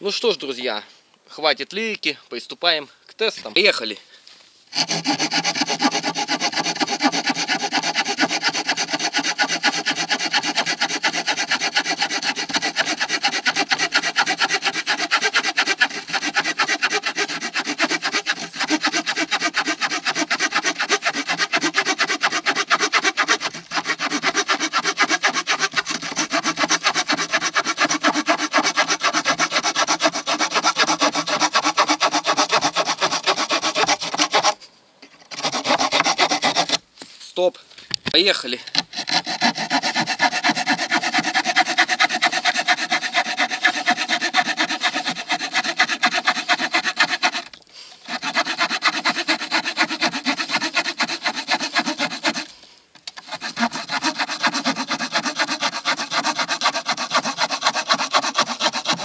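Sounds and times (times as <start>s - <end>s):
saw cutting through wooden board: 4.7s - 34.6s, 35.3s - 36.8s, 38.7s - 52.5s, 53.1s - 59.0s.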